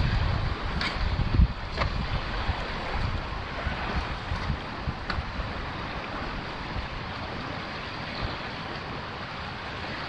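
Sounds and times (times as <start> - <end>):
wind gusts rumbling on microphone: 0.0 - 10.0
wind hiss: 0.0 - 10.0.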